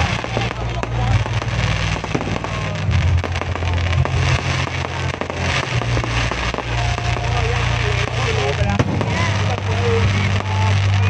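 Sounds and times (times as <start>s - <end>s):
fireworks crackling and banging: 0.0s - 11.0s
low rumble: 0.0s - 11.0s.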